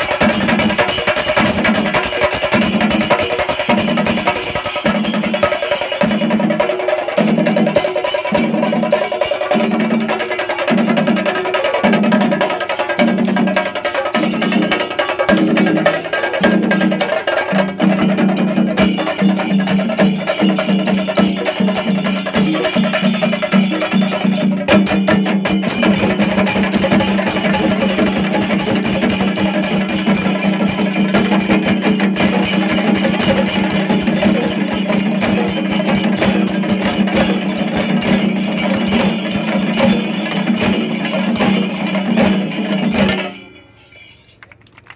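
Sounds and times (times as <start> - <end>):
clashing cymbals: 0.0 - 11.6, 13.0 - 44.4
drums beaten with sticks: 0.0 - 43.6.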